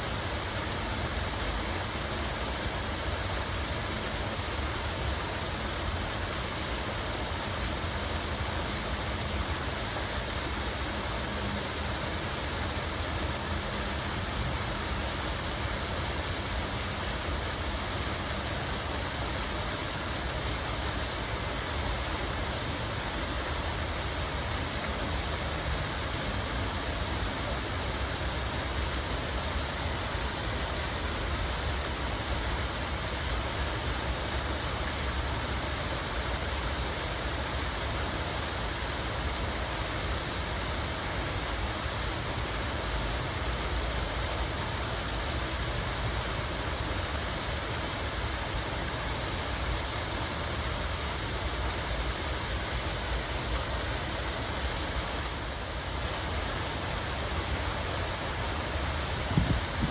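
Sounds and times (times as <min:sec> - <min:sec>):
water flowing and splashing: 0:00.0 - 0:59.9.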